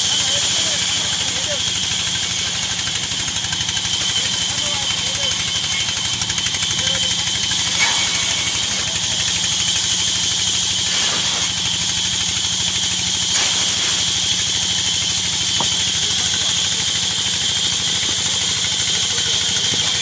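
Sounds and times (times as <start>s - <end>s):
band saw cutting wood: 0.0s - 20.0s
engine droning: 0.0s - 20.0s.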